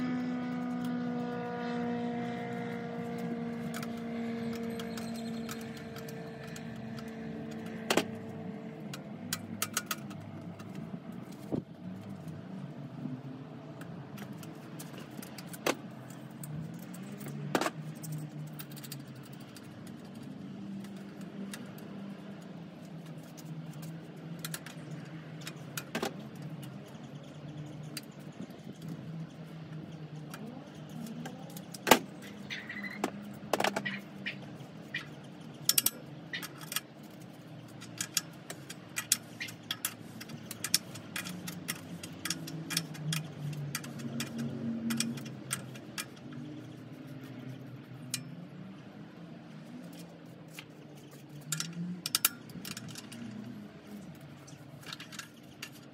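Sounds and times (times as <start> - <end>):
metal tools clinking on bicycle parts: 3.1 - 11.5, 14.2 - 48.6, 49.6 - 55.9.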